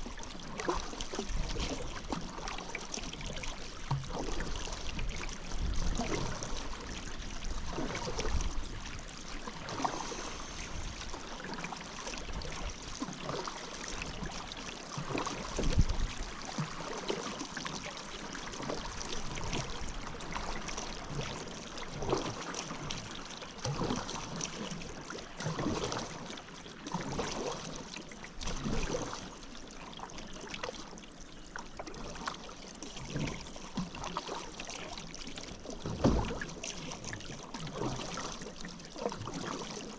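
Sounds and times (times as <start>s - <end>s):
paddle splashing through water: 0.0s - 39.9s.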